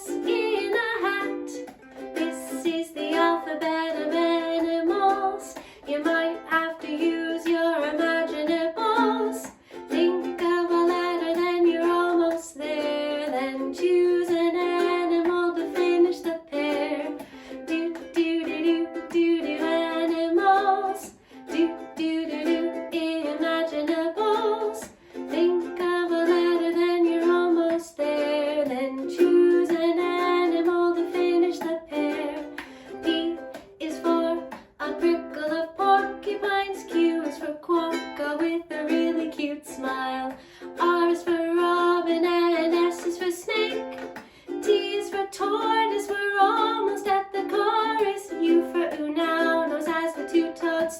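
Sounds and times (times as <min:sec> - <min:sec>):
strummed plucked strings: 0:00.0 - 0:50.9
woman singing: 0:00.0 - 0:50.9.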